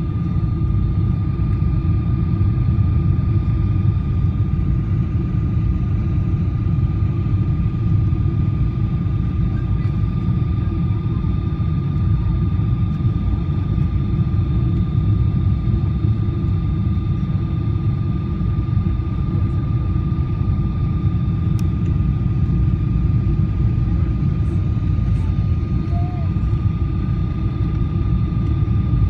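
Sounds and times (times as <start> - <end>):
faint steady whine: 0.0 - 29.0
jet engine cabin roar: 0.0 - 29.0.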